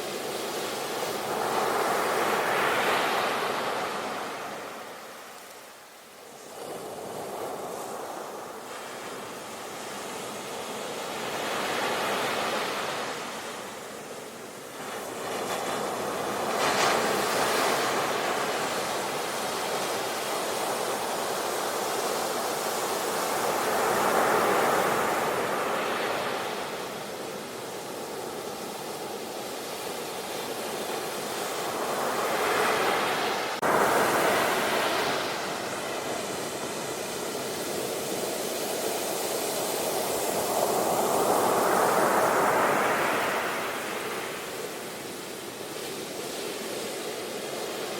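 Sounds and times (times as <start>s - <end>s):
sea surf breaking on shore: 0.0s - 5.4s, 6.4s - 47.9s.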